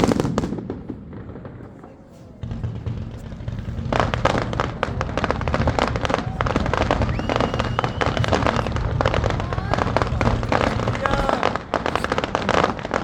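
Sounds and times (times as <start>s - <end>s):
fireworks crackling bangs: 0.0s - 13.0s
fireworks whistling: 0.0s - 13.0s
low rumble of fireworks: 0.0s - 13.0s.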